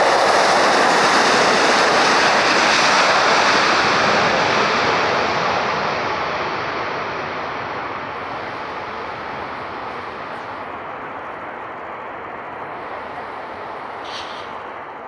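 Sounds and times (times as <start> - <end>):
aircraft engine rushing: 0.0 - 15.0.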